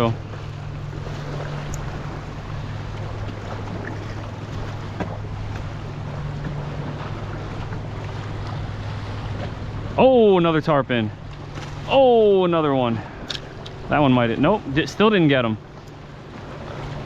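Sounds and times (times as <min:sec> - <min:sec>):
ocean surf: 0:00.0 - 0:17.0.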